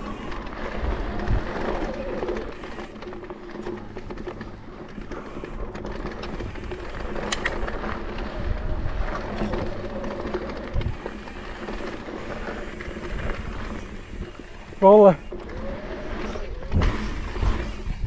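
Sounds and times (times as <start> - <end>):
bike knocking and rattling: 0.0 - 18.0
tyres rumbling on dirt: 0.0 - 18.0.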